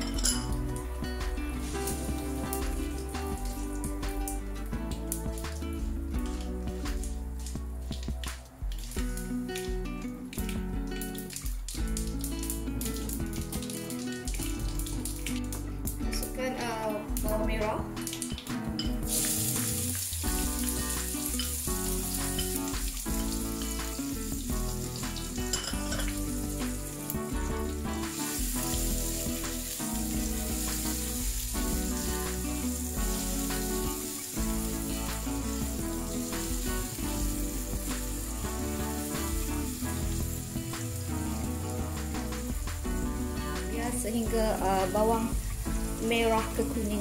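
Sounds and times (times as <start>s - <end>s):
onion sizzling in hot oil: 0.0s - 47.0s.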